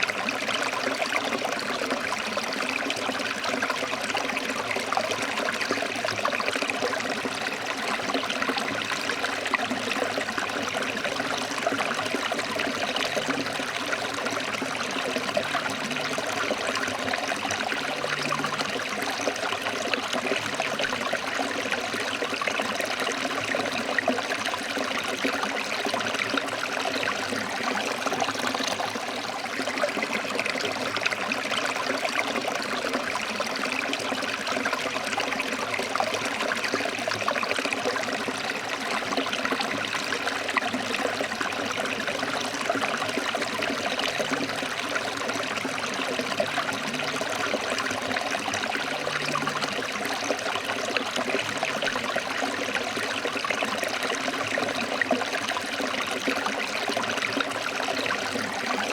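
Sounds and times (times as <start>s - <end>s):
stream running over rocks: 0.0s - 58.9s.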